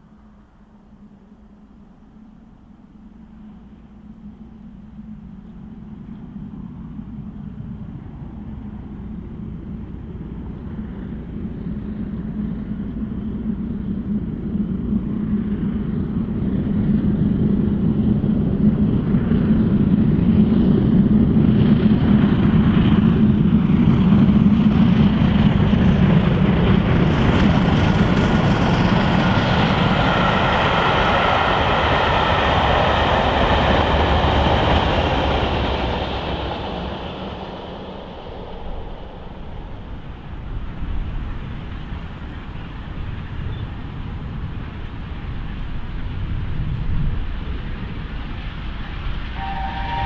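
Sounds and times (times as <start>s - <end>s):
steam locomotive running: 0.0s - 50.0s.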